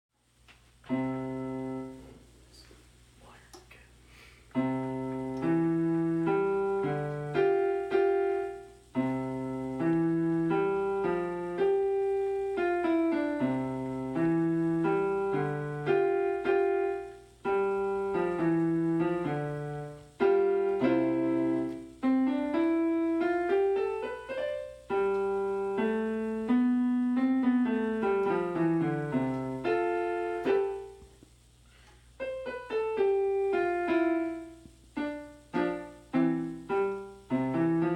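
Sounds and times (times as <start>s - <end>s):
piano notes and chords: 0.8s - 2.3s, 4.5s - 31.4s, 32.1s - 37.9s.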